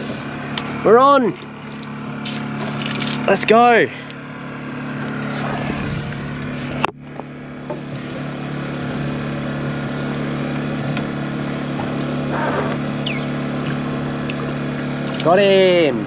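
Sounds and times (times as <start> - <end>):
generator engine droning: 0.0 - 16.0.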